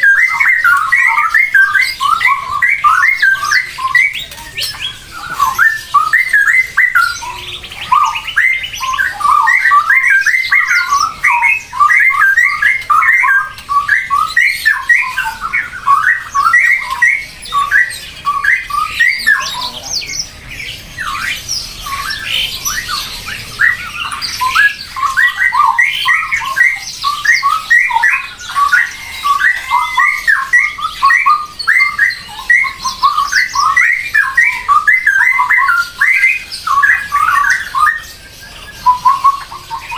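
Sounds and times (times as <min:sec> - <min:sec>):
many birds calling: 0:00.0 - 0:39.9.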